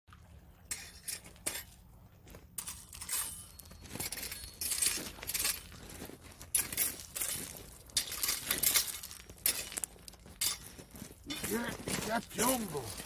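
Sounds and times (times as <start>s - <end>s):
footsteps on pebbles: 2.1s - 13.0s.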